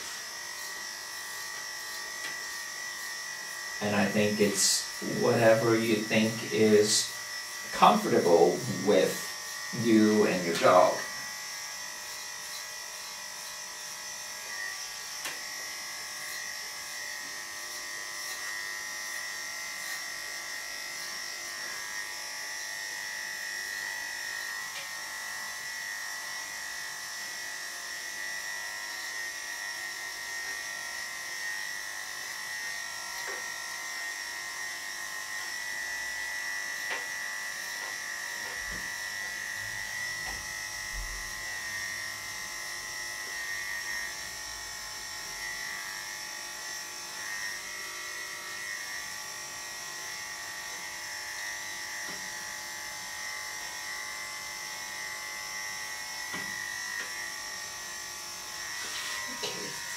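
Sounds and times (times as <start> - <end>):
electric clippers humming: 0.0 - 59.9.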